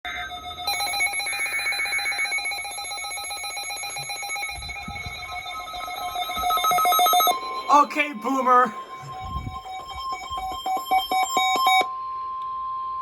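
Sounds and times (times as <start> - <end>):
pulsing alarm beeps: 0.1 - 13.0.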